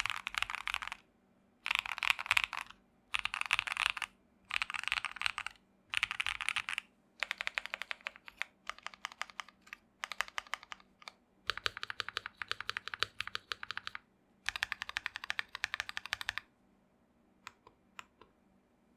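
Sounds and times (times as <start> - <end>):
mechanical keyboard typing: 0.0 - 1.0, 1.6 - 16.4.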